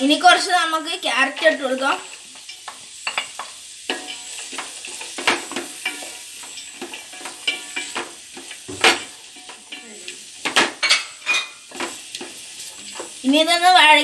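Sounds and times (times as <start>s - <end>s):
vegetables sizzling in oil: 0.0s - 14.0s
utensil scraping a pan: 1.2s - 13.3s.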